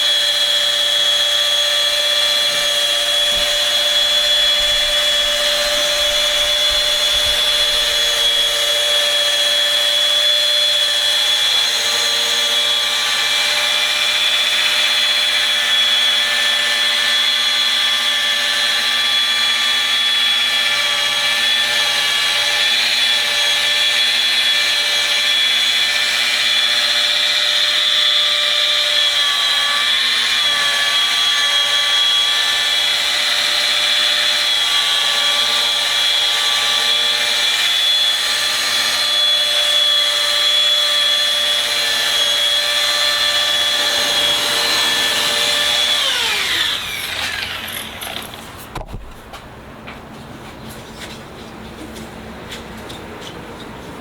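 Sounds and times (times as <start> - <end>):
rotary polisher whining: 0.0 - 49.1.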